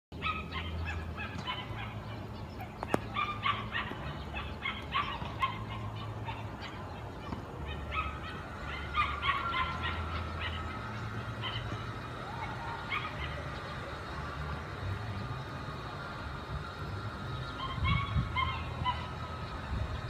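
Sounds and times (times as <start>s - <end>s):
low background rumble: 0.2s - 20.0s.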